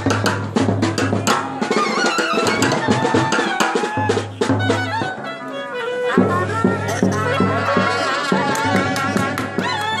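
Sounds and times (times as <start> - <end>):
fast drum and cymbal beats: 0.0 - 5.2, 6.0 - 10.0
trumpets and clarinets melody: 1.5 - 10.0.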